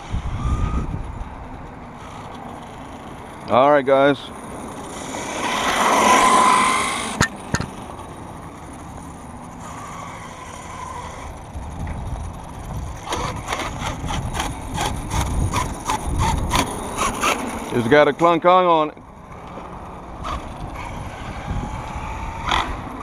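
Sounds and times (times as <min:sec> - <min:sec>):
toy truck motor whine: 0:00.0 - 0:18.4, 0:19.3 - 0:23.0
toy truck rumbling over rough ground: 0:00.0 - 0:23.0.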